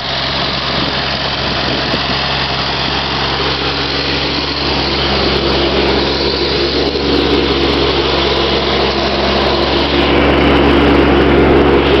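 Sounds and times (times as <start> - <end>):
ride-on mower running: 0.0 - 12.0.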